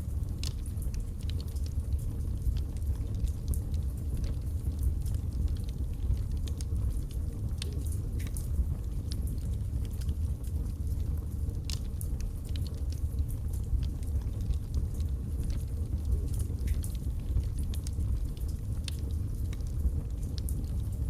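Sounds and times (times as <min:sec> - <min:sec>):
burning logs crackling and popping: 0:00.0 - 0:21.0
low rumble of flames: 0:00.0 - 0:21.0.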